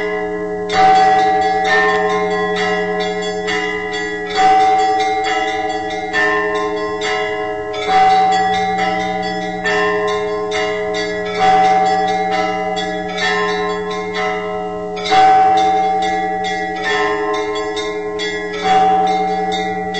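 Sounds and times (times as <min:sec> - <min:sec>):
church bells pealing: 0:00.0 - 0:19.9.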